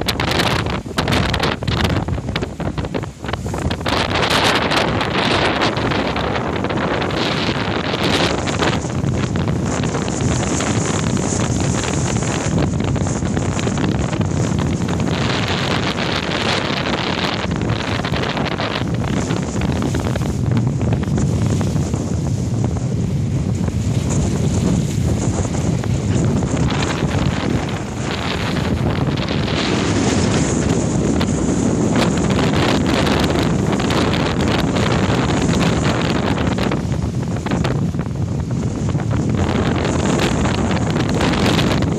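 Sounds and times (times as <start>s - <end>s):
strong wind on microphone: 0.0s - 41.9s
waves splashing: 0.0s - 41.9s.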